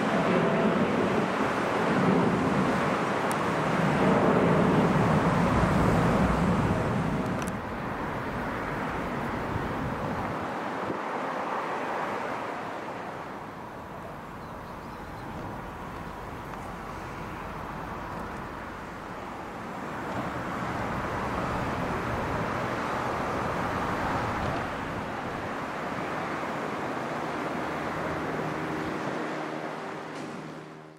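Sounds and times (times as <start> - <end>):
outdoor rushing noise: 0.0 - 14.3, 15.3 - 30.9.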